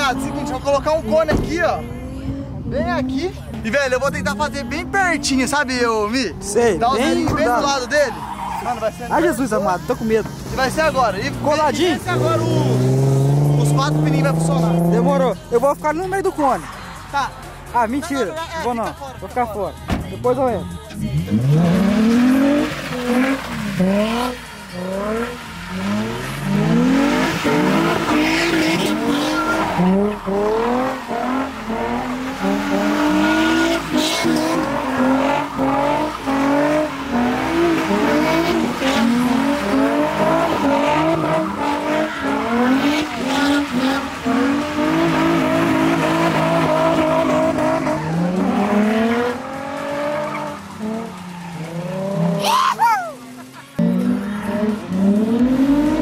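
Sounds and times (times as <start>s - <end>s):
car engines revving: 0.0s - 56.0s
tyres skidding on wet asphalt: 3.6s - 18.9s, 21.2s - 56.0s.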